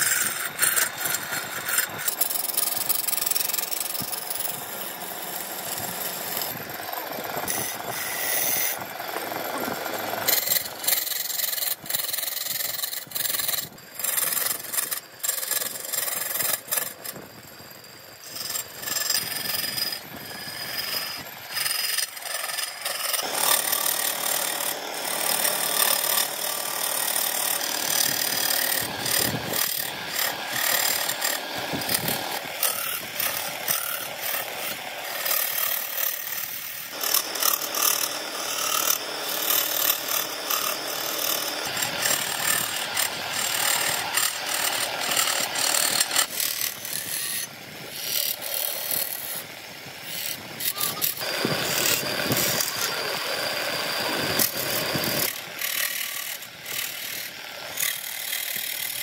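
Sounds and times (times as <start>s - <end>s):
lathe tool scraping wood: 0.0s - 59.0s.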